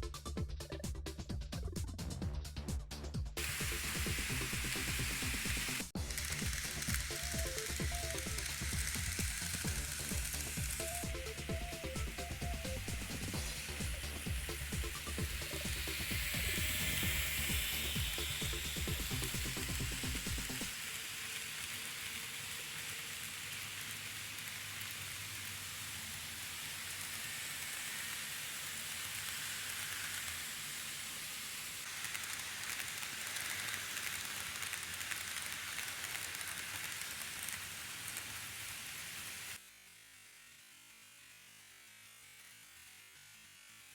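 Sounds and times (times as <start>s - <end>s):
model train wheels rattling on rail: 3.4s - 39.6s
faint motor hum: 3.4s - 41.0s.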